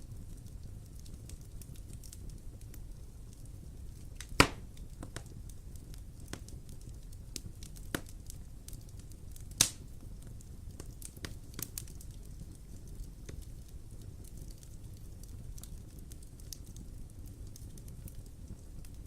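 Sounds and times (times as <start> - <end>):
loud pops of fire: 0.0 - 19.0
wood fire crackling: 0.0 - 19.0.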